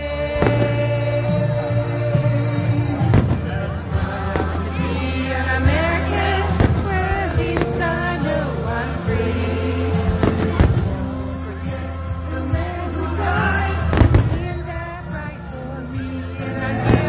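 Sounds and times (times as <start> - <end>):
pop music with singing: 0.0 - 17.0
fireworks bangs: 0.3 - 1.7, 2.6 - 15.5, 16.7 - 17.0.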